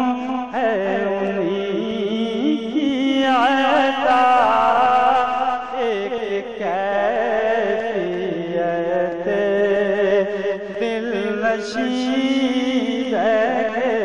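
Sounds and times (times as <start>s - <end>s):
men singing unaccompanied: 0.0s - 14.0s.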